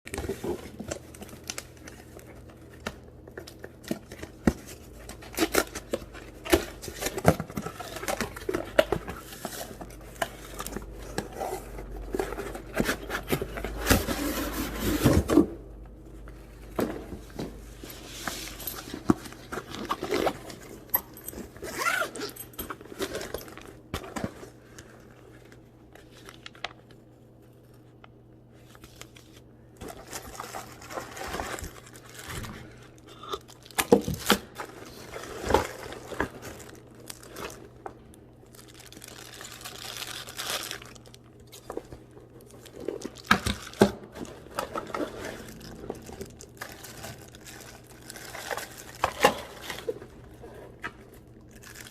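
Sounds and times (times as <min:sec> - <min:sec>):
wrapping crinkling and tearing: 0:00.1 - 0:15.4, 0:17.6 - 0:27.0, 0:28.6 - 0:51.9.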